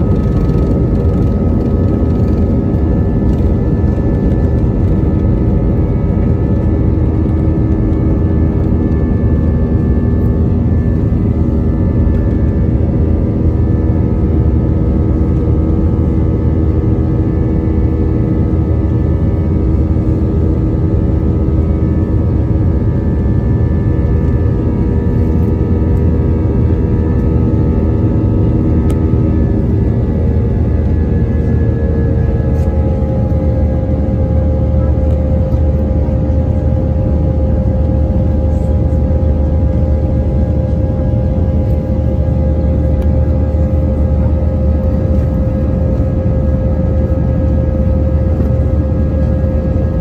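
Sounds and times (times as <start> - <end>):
jet engine cabin rumble: 0.0 - 50.0.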